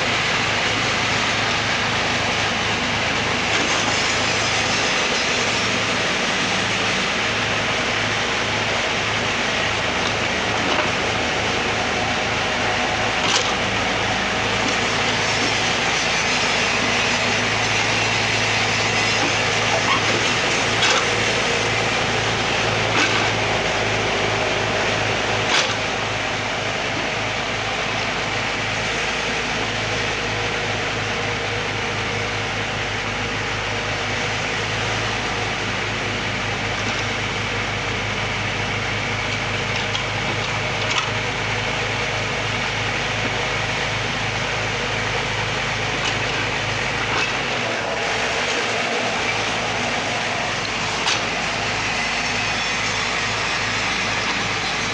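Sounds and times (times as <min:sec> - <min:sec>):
backhoe diesel engine running: 0:00.0 - 0:54.9.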